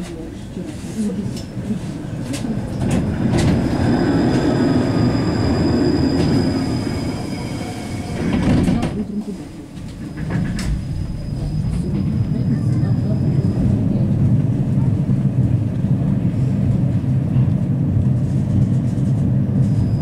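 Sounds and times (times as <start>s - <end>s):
tram rumbling on rails: 0.0s - 20.0s.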